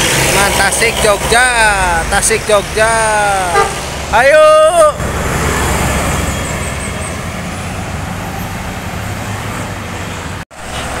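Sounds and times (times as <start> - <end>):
bus engine rumble and road noise: 0.0 - 11.0.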